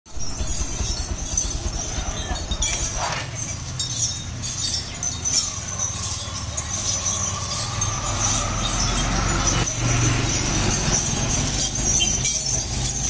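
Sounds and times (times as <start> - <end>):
engine rumble of traffic: 0.1 - 13.0.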